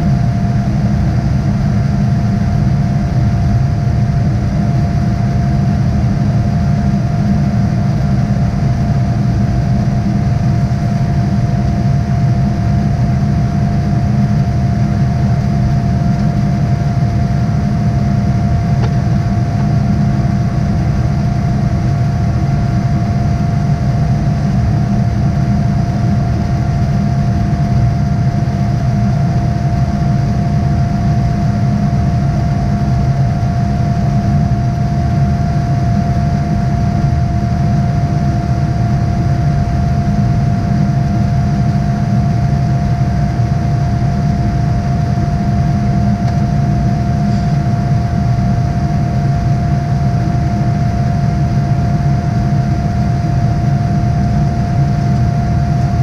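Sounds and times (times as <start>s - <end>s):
engine and airflow rumble: 0.0s - 56.0s
jet engine whine: 0.0s - 56.0s.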